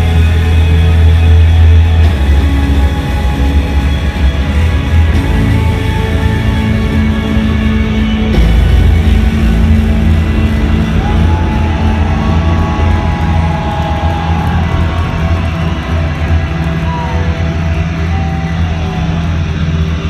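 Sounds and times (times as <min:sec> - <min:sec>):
rock band playing loudly: 0:00.0 - 0:20.0.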